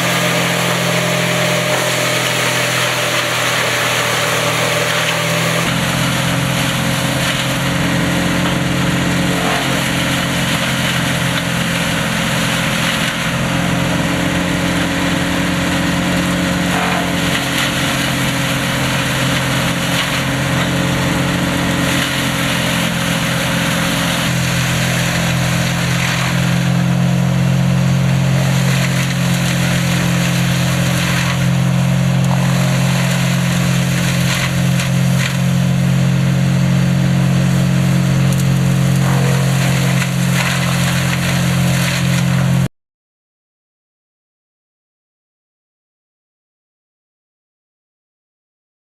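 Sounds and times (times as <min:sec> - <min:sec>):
wood chipper engine running: 0:00.0 - 0:42.7.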